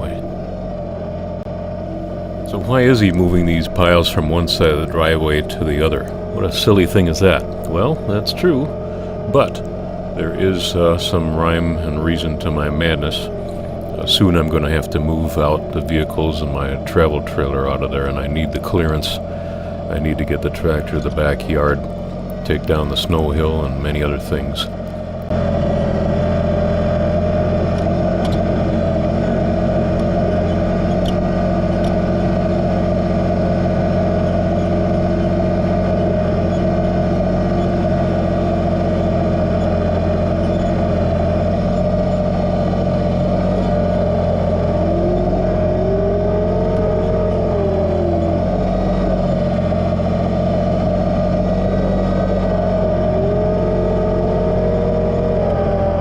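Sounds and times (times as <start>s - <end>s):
tractor diesel engine running: 0.0s - 56.0s
wavering tone: 0.0s - 56.0s.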